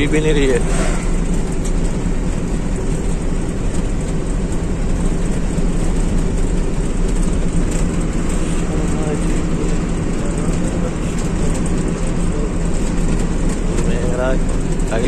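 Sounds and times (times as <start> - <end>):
diesel truck engine droning: 0.0 - 15.0
tyre and road noise: 0.0 - 15.0.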